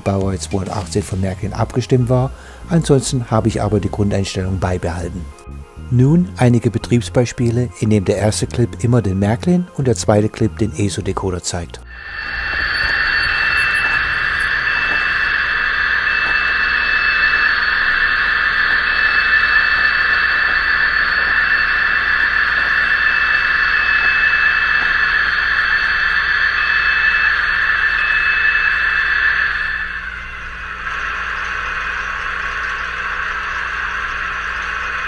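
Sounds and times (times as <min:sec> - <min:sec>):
thin high whistle: 0:00.0 - 0:35.0.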